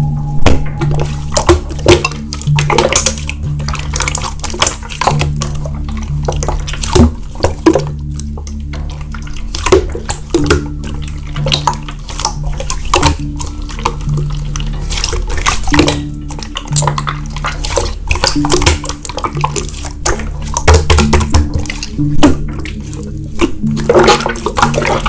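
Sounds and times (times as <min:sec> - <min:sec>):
background music with bass line: 0:00.0 - 0:25.0
slime squishing and crackling: 0:00.0 - 0:25.0.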